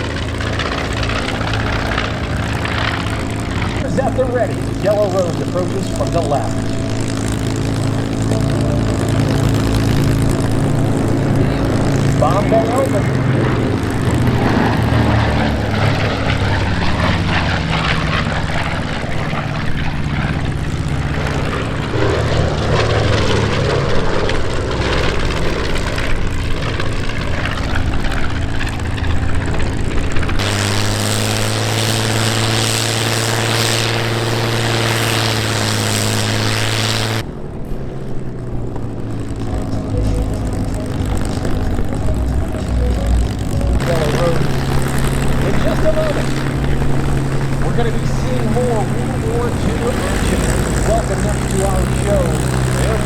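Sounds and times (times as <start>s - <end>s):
propeller aircraft engines droning: 0.0s - 53.0s.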